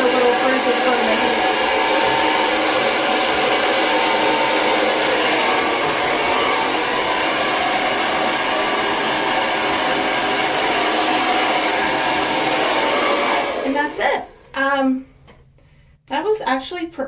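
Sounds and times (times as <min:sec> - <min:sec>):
hair dryer running: 0:00.0 - 0:14.7.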